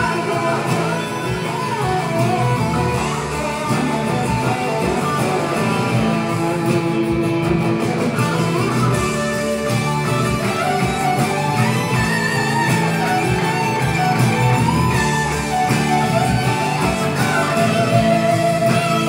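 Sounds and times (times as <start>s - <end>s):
guitar: 0.0s - 19.0s
live band playing: 0.0s - 19.0s.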